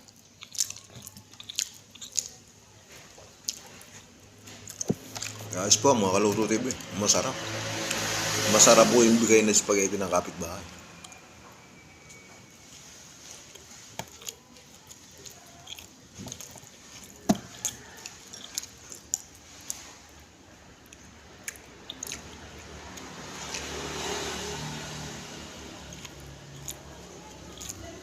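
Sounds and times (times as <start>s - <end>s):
person chewing: 0.0s - 6.9s, 12.0s - 28.0s.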